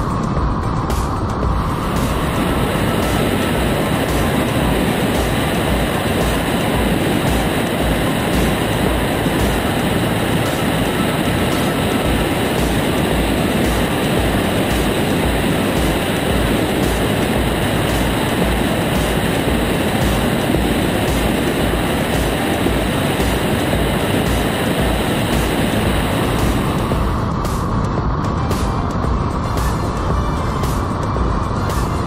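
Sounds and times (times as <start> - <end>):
wind buffeting microphone: 0.0 - 31.5
light aircraft engine: 0.0 - 32.0
wind rush: 0.0 - 32.0.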